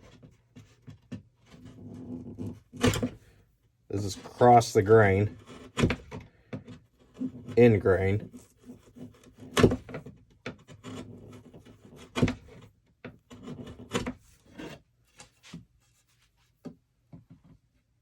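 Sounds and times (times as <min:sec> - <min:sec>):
chisel scraping wood: 0:00.0 - 0:03.4, 0:04.0 - 0:15.6.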